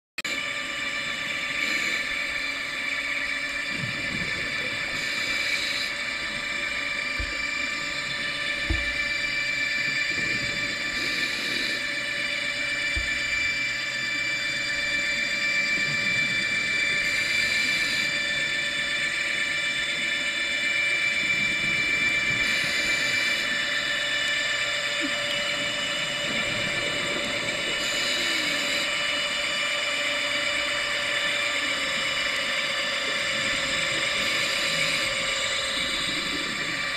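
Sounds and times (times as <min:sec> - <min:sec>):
scuba exhaust bubbles hissing: 0:00.3 - 0:36.9
submarine thrusters whining: 0:00.3 - 0:36.9.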